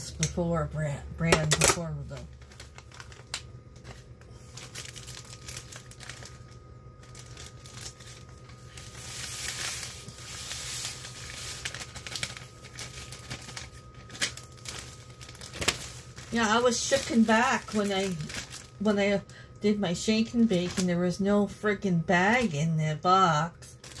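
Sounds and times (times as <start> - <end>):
plastic bag crinkling: 1.3 - 21.1, 23.7 - 24.0.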